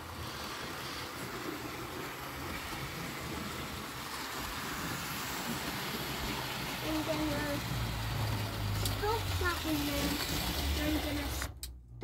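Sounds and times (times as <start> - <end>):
wheels rumbling on rail: 0.0 - 11.5
model train motors humming: 0.0 - 11.7.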